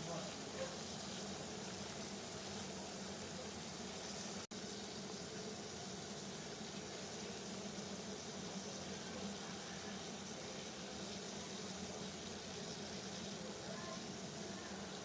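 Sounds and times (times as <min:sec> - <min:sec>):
water boiling: 0:00.0 - 0:15.0.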